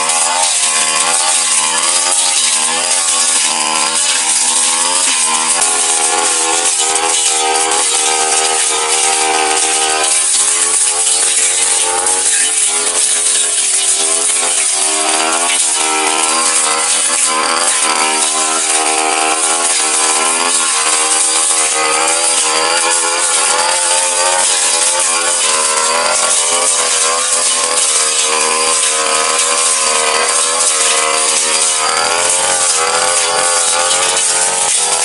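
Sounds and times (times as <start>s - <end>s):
blade cutting grass and brush: 0.0s - 35.0s
brush cutter engine running hard: 0.0s - 35.0s.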